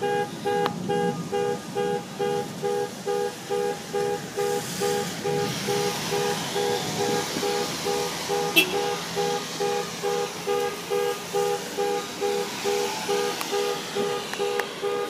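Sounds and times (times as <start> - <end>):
ambulance siren beeping: 0.0 - 15.0
tyres hissing on wet road: 0.2 - 15.0.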